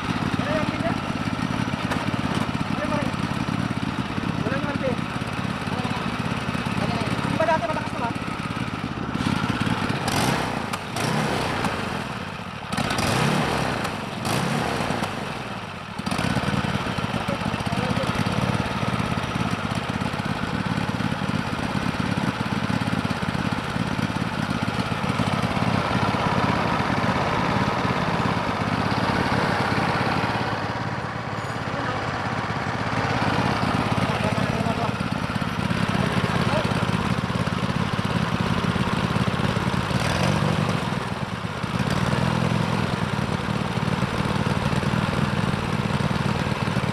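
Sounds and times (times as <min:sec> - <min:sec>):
riding mower engine running: 0:00.0 - 0:46.9.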